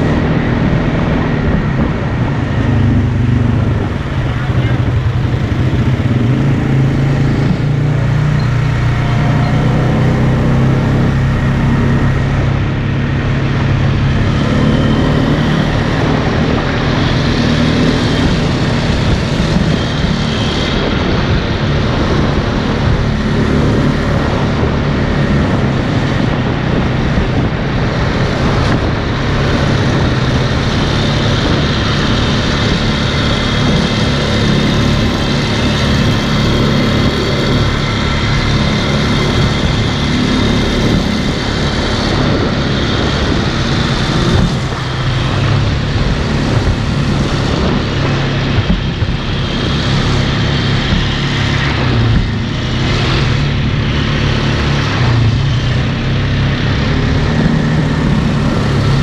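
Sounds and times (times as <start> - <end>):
atv engine running: 0.0 - 59.0
wind and ride noise: 0.0 - 59.0.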